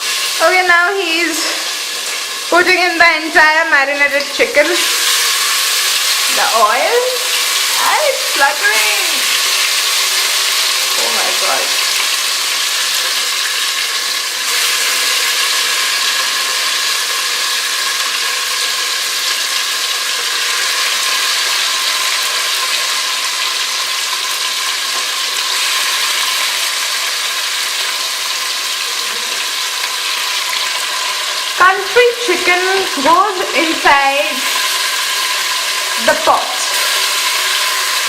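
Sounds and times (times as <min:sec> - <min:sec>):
chicken sizzling in oil: 0:00.0 - 0:38.0.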